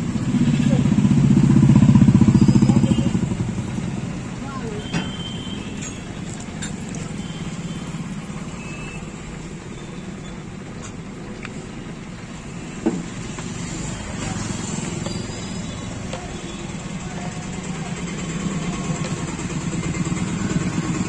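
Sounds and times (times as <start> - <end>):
low rumble of street traffic: 0.0 - 21.0.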